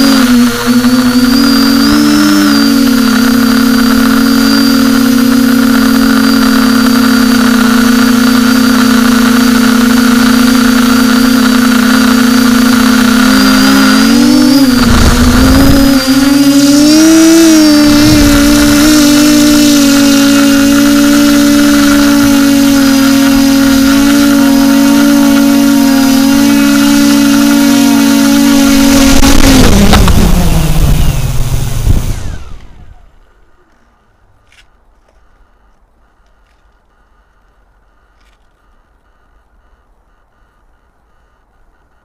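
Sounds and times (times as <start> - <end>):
drone motors humming and whining: 0.0 - 42.0.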